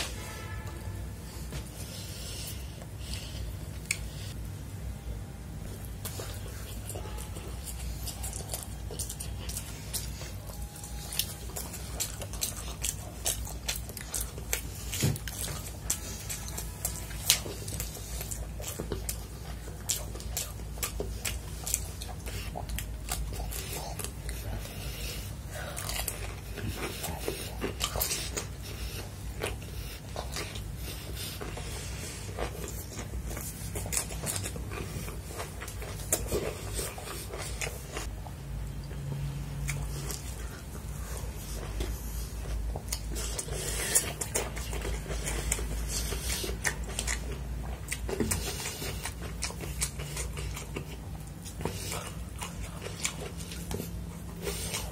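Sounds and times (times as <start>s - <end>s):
chewing and wet mouth sounds: 0.0s - 4.5s, 5.5s - 54.9s.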